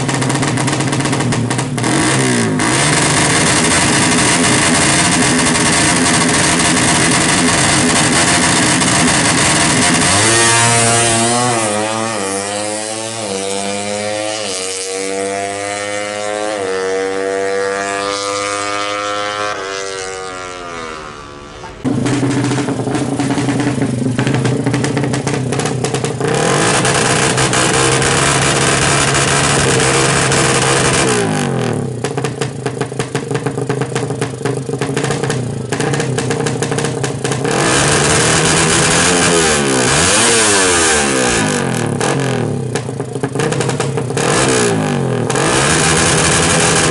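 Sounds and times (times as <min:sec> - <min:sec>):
motorcycle accelerating: 0:00.0 - 0:46.9
motorcycle engine revving: 0:00.0 - 0:46.9.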